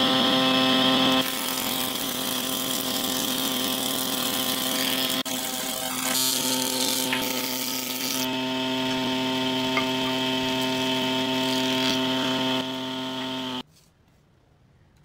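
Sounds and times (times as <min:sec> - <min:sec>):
planer cutting wood: 0:00.0 - 0:13.6
thickness planer motor whine: 0:00.0 - 0:13.6.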